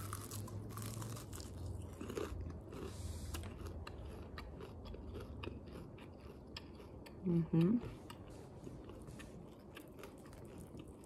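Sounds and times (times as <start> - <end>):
person chewing crispy chicken: 0.0 - 11.0.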